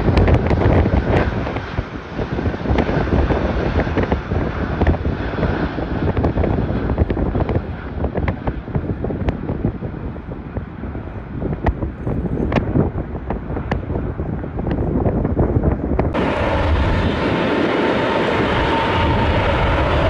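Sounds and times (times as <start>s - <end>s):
jet airliner roar: 0.0s - 20.0s
wind buffeting microphone: 0.0s - 20.0s.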